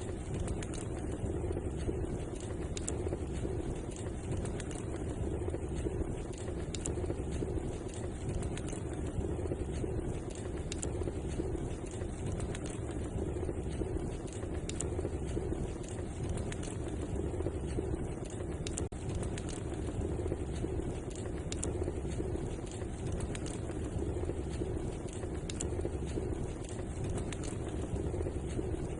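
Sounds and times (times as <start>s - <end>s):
fire crackling and popping: 0.0s - 28.9s
fire rumbling: 0.0s - 28.9s.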